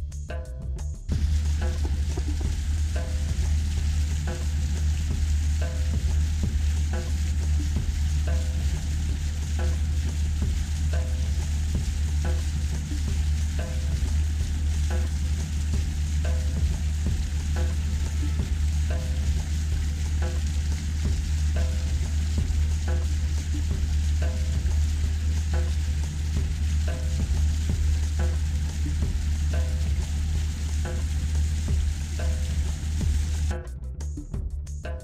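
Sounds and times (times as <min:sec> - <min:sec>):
water and wind rushing: 0:01.1 - 0:33.6
motorboat engine hum: 0:01.1 - 0:33.7.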